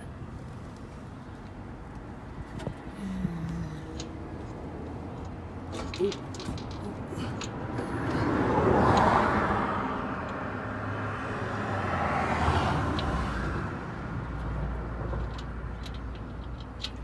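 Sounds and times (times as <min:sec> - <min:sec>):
vehicle passing: 0:02.3 - 0:16.6.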